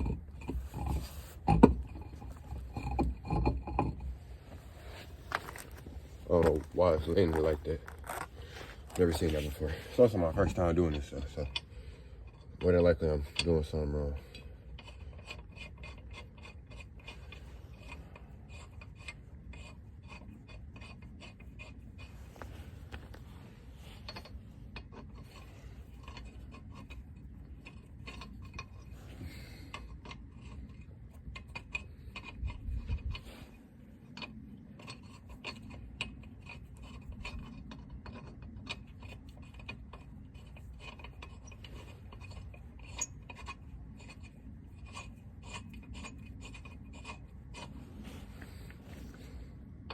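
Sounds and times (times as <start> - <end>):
metallic clicks and scraping: 0.0 - 49.9
steady low rumble: 0.0 - 49.9.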